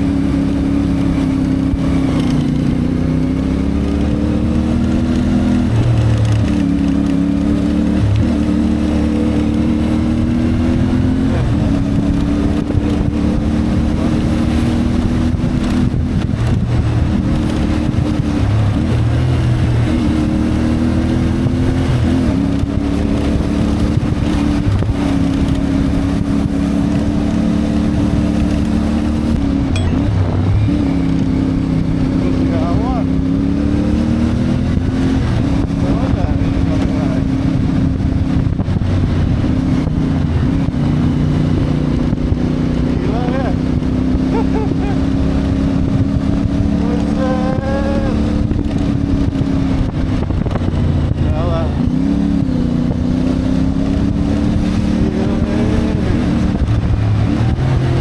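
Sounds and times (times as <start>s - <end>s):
motorcycle engine revving: 0.0s - 58.0s
wind and road rumble: 0.0s - 58.0s.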